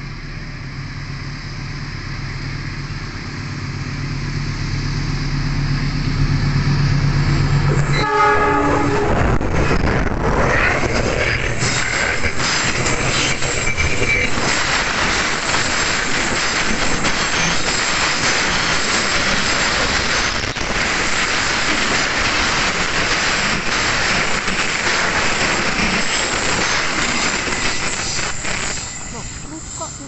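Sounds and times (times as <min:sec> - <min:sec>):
train wheels rolling on rail: 0:00.0 - 0:30.0.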